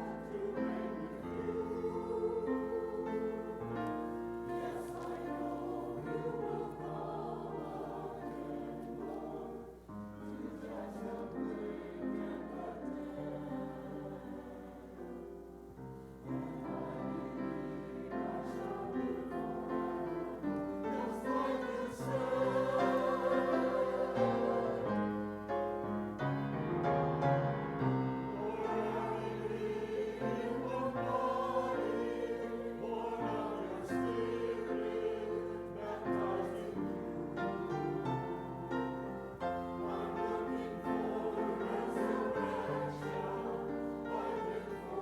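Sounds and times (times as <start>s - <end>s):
choir singing: 0.0s - 45.0s
piano accompaniment: 0.0s - 45.0s.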